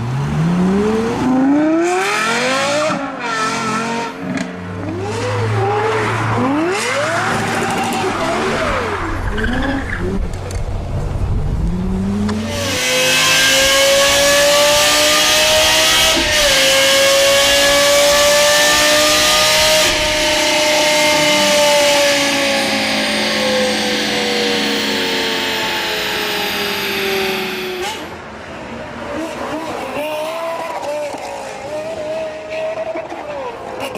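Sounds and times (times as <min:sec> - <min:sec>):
car engine revving: 0:00.0 - 0:28.2.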